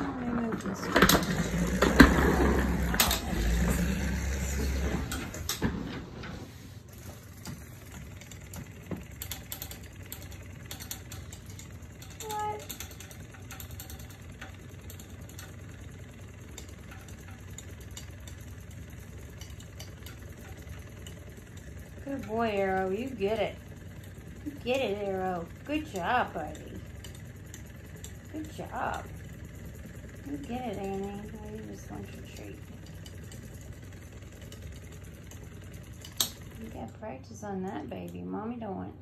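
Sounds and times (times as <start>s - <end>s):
small toy motor whirring: 0.0s - 5.6s, 6.9s - 36.9s.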